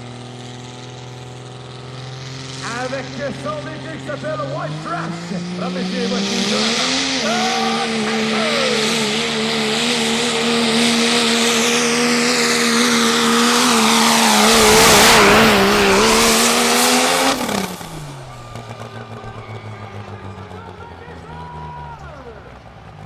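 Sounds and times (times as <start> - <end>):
diesel truck engine at high revs: 0.0 - 23.0.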